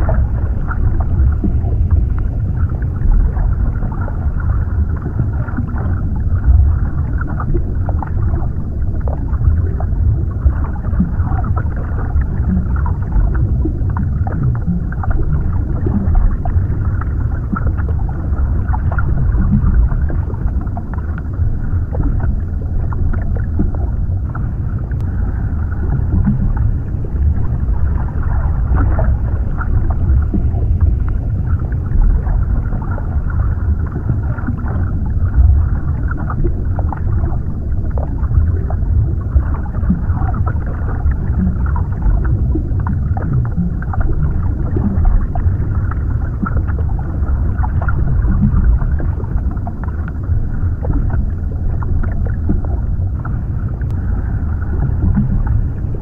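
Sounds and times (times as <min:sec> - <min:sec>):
faint crackling and bubbling: 0:00.0 - 0:56.0
muffled underwater rumble: 0:00.0 - 0:56.0.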